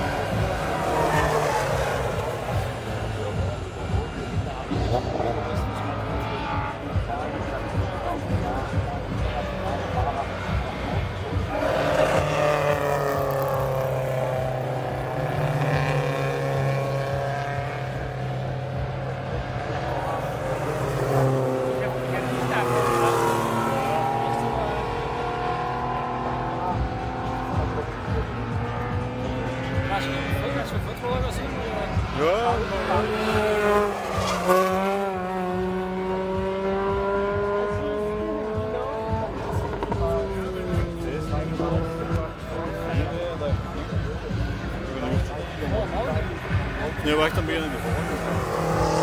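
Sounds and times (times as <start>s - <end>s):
racing car engines passing by: 0.0s - 49.0s.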